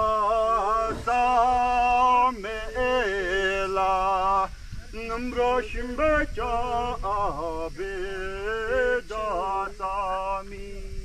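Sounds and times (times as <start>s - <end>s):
faint low hum: 0.0s - 11.0s
man singing a chant-like melody: 0.0s - 11.0s.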